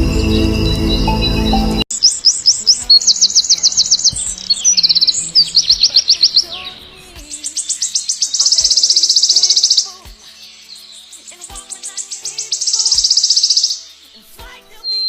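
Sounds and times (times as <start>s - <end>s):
songbird chirping and trilling: 0.0s - 15.0s.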